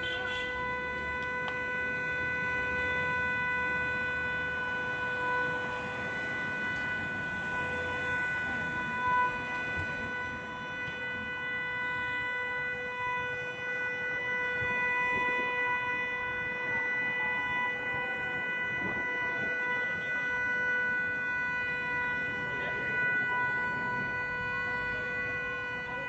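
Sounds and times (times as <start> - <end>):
continuous steady tone: 0.0 - 26.0.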